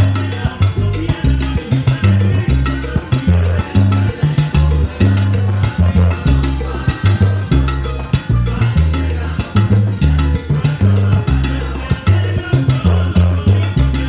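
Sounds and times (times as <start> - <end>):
heavy bass line: 0.0 - 14.0
salsa band playing: 0.0 - 14.0.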